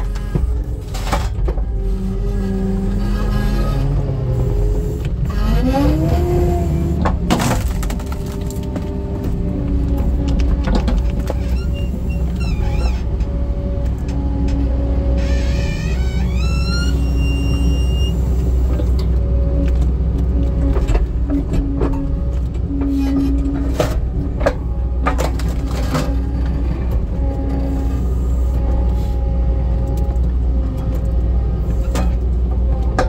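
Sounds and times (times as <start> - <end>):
hydraulics whining: 0.0 - 33.0
skid steer engine running: 0.0 - 33.0.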